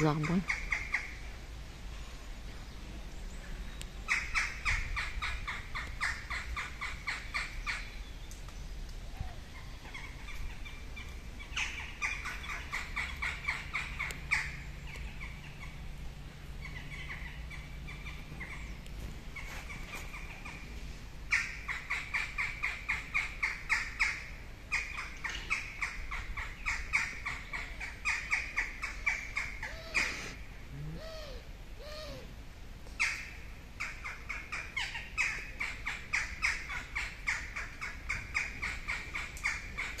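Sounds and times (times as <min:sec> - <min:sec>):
lower arching bird calls: 0:00.0 - 0:08.4, 0:09.0 - 0:40.0
small birds chirping: 0:00.0 - 0:40.0.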